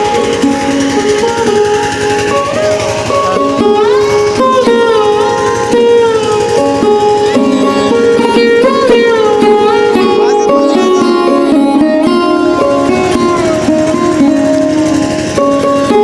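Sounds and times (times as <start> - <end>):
plucked-string melody: 0.0 - 16.0
steady drone: 0.0 - 16.0.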